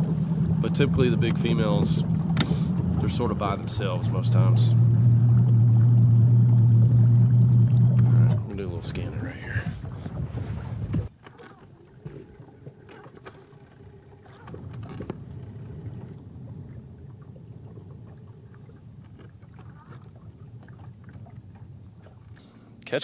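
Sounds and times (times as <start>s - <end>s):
boat low rumble: 0.0s - 23.0s.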